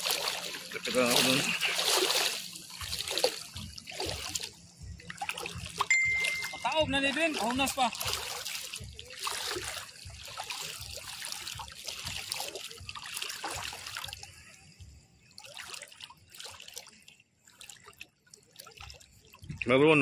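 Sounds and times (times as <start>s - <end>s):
small waves lapping: 0.0s - 20.0s.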